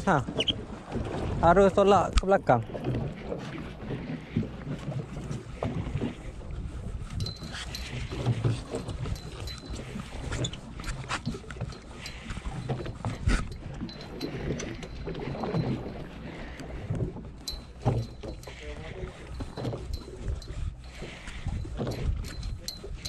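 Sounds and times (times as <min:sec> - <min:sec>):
water lapping against boat hull: 0:00.0 - 0:23.0
wind on microphone: 0:00.0 - 0:23.0.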